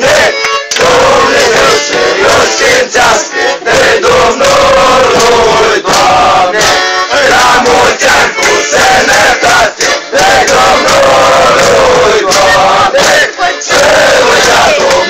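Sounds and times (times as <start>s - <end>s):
men singing together: 0.0s - 15.0s.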